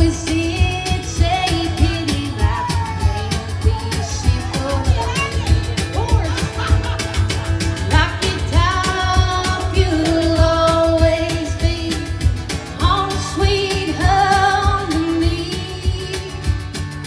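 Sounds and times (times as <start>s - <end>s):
woman singing with vibrato: 0.0s - 7.0s, 7.8s - 16.7s
steady drum beat: 0.0s - 17.0s.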